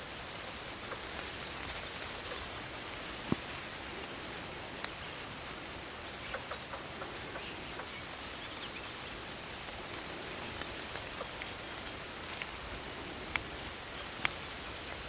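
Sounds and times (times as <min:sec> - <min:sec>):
rain hissing in a forest: 0:00.0 - 0:15.0.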